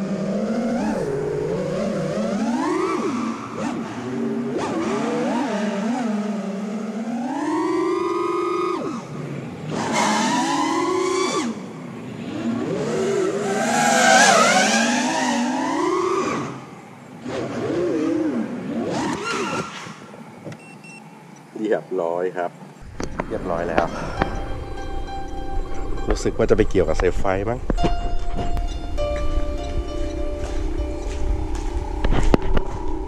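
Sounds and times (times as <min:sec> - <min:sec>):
drone motors whining: 0:00.0 - 0:21.5, 0:22.8 - 0:33.0.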